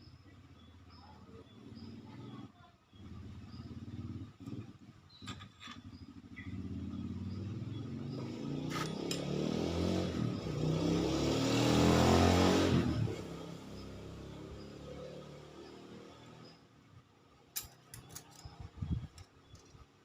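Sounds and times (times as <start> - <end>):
motorcycle engine revving: 0.2 - 17.0.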